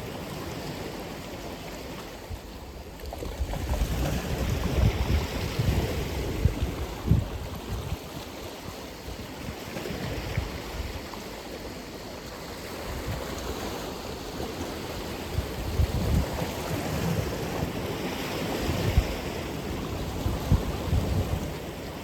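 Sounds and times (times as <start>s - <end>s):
ocean waves breaking on shore: 0.0s - 22.0s
wind rumble on microphone: 2.2s - 11.2s, 12.8s - 22.0s.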